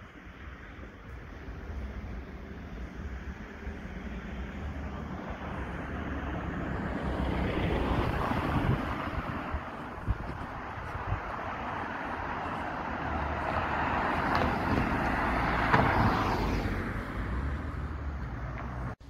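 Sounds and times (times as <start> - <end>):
street traffic rumble: 0.0 - 19.0
car driving past: 3.0 - 19.0.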